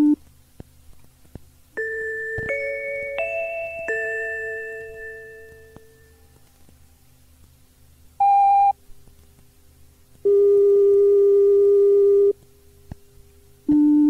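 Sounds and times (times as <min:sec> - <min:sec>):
tape hiss and hum: 0:00.0 - 0:14.0
steady low tone: 0:01.7 - 0:14.0.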